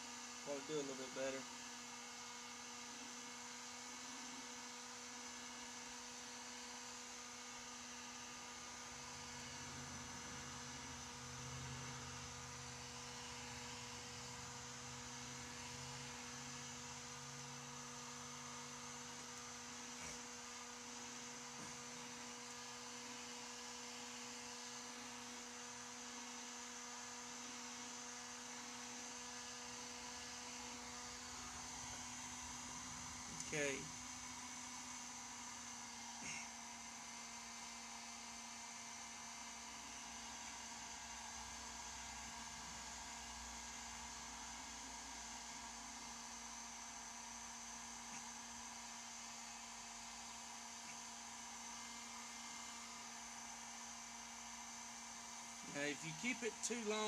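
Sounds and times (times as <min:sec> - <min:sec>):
heat gun motor hum: 0:00.0 - 0:57.0.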